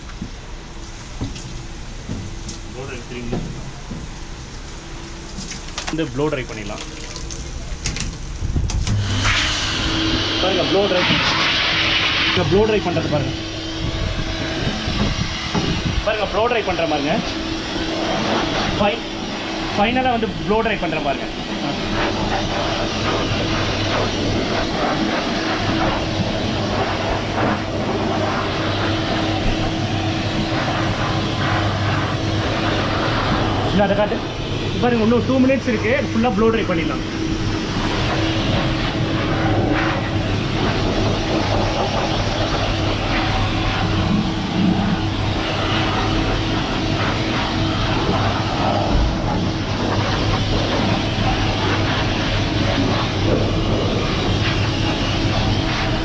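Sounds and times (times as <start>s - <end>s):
blow dryer motor and air rush: 0.0s - 56.0s.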